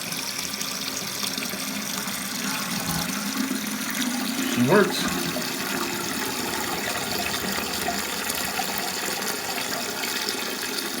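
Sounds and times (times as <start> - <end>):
toilet tank refilling with water: 0.0 - 11.0.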